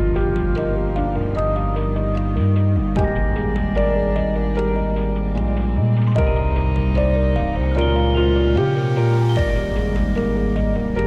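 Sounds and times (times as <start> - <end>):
calm ambient music: 0.0 - 11.0.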